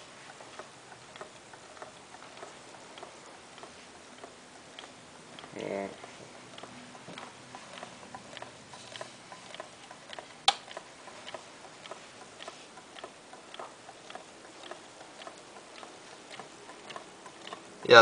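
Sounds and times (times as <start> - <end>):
small engine ticking clicks: 0.3 - 18.0.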